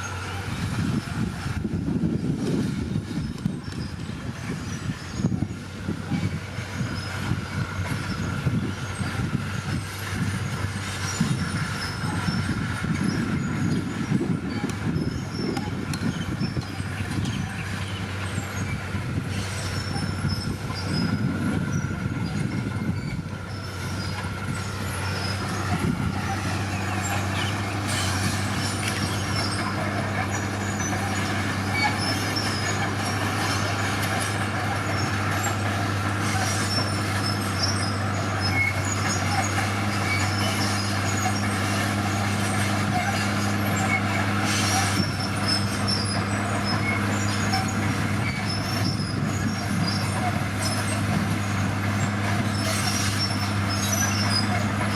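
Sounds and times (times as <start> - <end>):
heavy diesel engine: 0.0 - 54.9
machinery clanking: 0.0 - 54.9
machinery squealing: 0.0 - 54.9.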